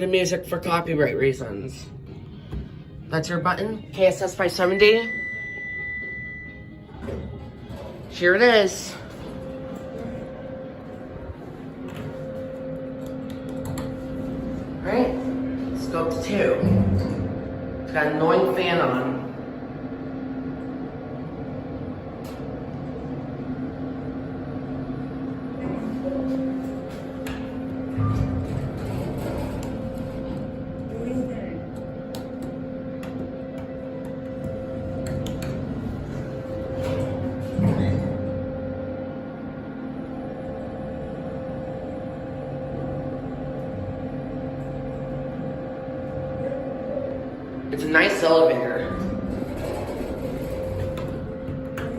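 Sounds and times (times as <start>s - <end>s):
elevator hum: 0.0s - 51.9s
ventilation fan running: 0.0s - 51.9s.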